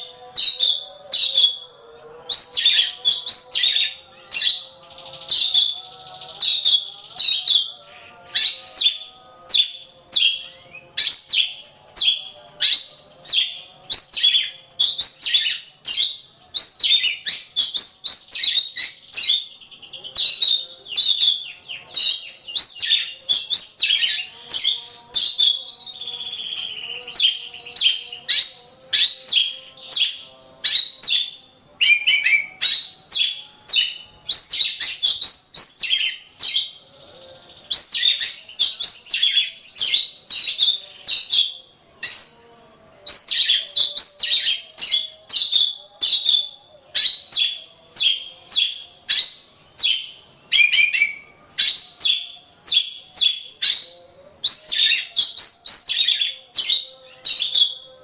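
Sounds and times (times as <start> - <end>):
bird singing whistles and chatter: 2.3 - 42.4, 43.0 - 58.0.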